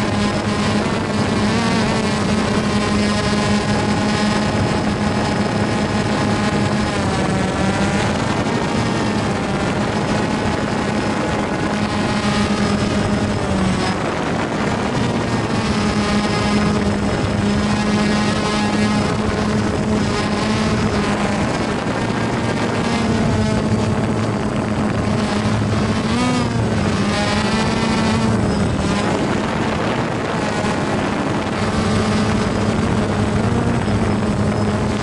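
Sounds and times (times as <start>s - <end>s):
drone propellers buzzing: 0.0s - 35.0s.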